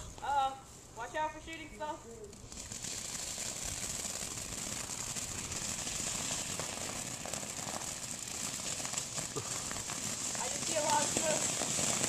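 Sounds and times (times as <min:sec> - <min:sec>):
firework fountain hissing and crackling: 0:00.0 - 0:12.0.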